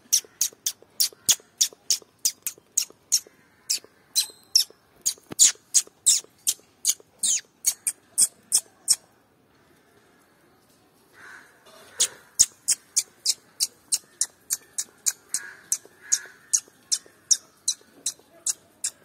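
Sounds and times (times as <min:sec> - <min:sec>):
squirrel chirping: 0:00.0 - 0:09.0, 0:12.0 - 0:19.0.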